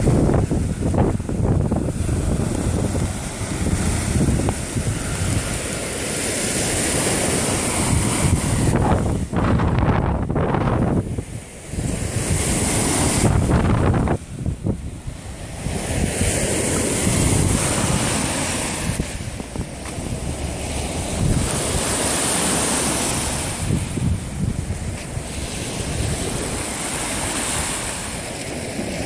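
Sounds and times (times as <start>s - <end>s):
waves washing in: 0.0s - 29.0s
wind buffeting microphone: 0.0s - 29.0s.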